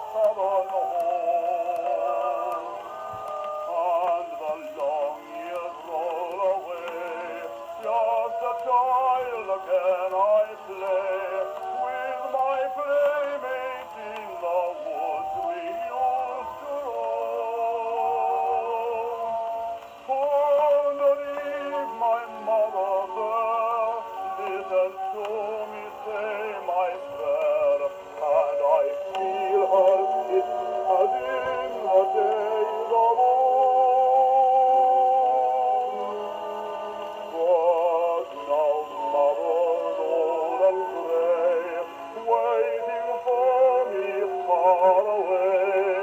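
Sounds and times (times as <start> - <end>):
man singing on gramophone record: 0.0 - 46.0.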